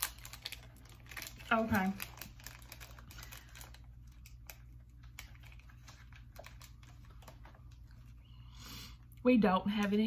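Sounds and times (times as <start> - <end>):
plastic packet crackling: 0.0 - 8.2.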